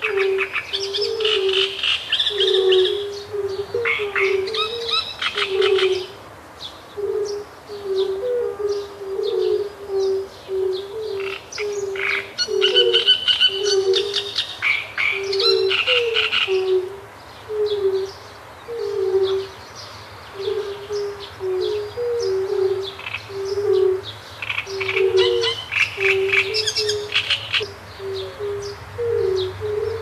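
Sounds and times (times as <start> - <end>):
toads calling: 0.0 - 6.2, 7.0 - 19.6, 20.3 - 30.0
reed warbler song: 0.0 - 30.0.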